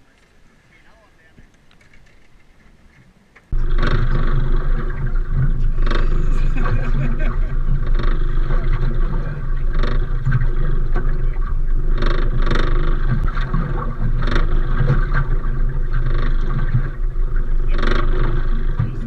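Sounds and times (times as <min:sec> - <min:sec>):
boat engine low rumble: 0:00.0 - 0:19.0.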